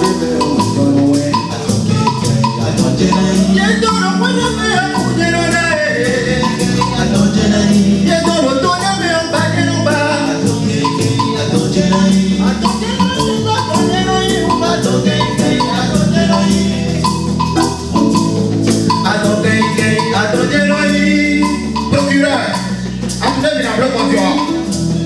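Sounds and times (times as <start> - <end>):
lively music with percussion: 0.0 - 25.0.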